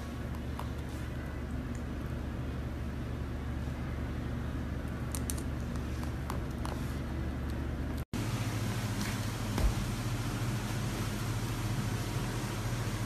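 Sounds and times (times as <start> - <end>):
low indoor hum: 0.0 - 13.0.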